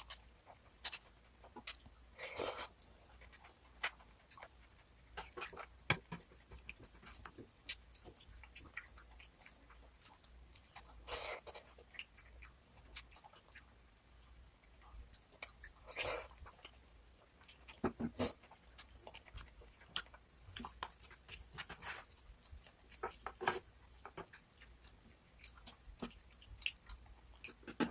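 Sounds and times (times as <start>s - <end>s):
clicks and crunches of chewing: 0.0s - 27.9s
food being chewed: 0.0s - 27.9s.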